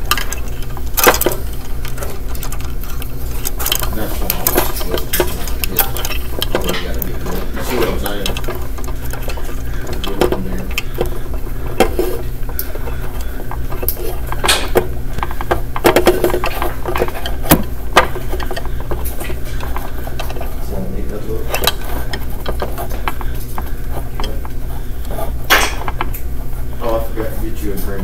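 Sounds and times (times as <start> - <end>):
steady low hum: 0.0 - 28.0
wires clicking and rattling in metal box: 0.0 - 28.0.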